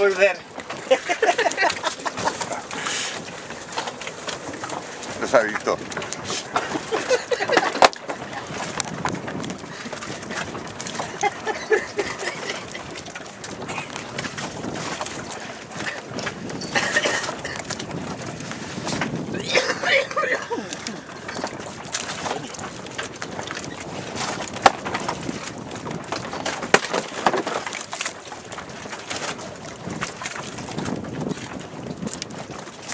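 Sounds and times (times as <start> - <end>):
water noise: 0.0 - 32.9
wind: 0.0 - 32.9.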